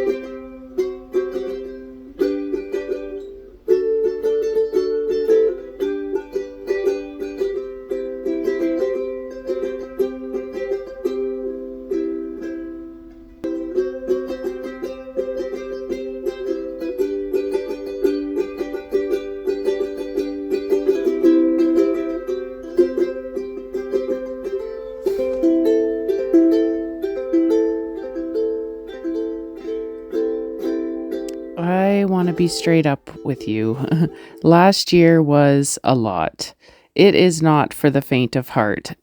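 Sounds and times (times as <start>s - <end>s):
ukulele playing: 0.0s - 36.2s.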